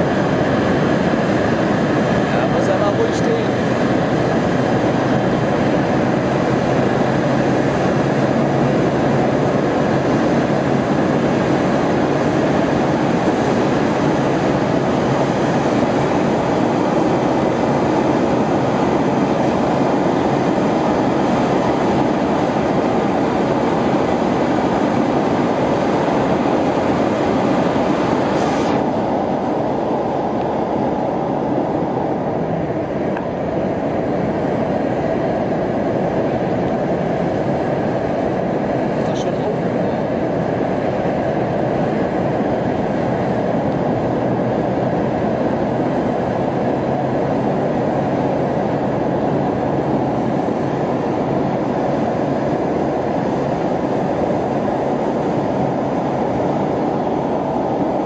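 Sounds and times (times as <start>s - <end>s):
gas burners roaring: 0.0s - 58.0s.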